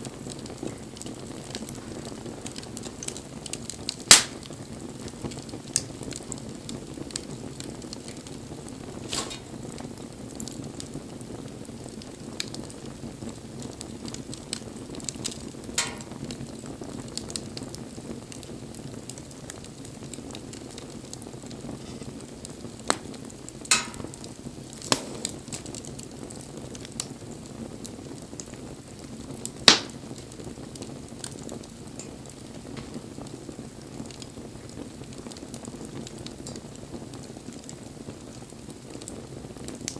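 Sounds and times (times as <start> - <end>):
bonfire flame rushing: 0.0 - 39.9
fire pops and cracks: 0.0 - 39.9.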